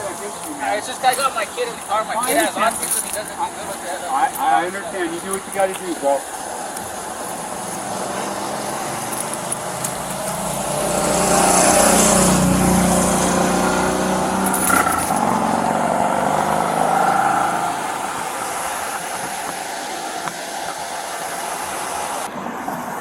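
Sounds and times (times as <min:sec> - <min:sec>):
vehicle engine running: 0:00.0 - 0:22.3.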